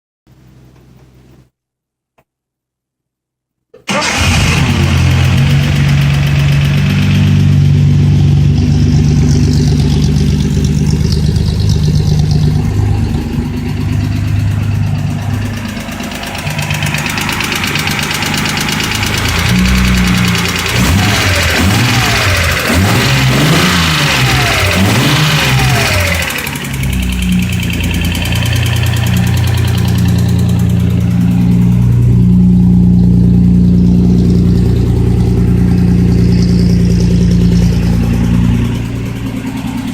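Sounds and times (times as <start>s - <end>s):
car engine idling and revving: 3.9s - 39.9s.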